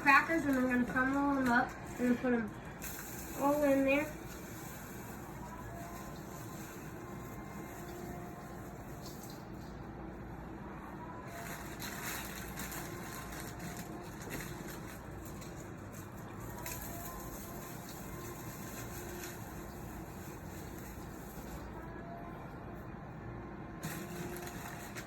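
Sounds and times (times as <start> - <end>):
crackers crumbled by hand: 0.0 - 9.4, 11.2 - 21.8, 23.8 - 25.0
steady background hum: 0.0 - 25.0.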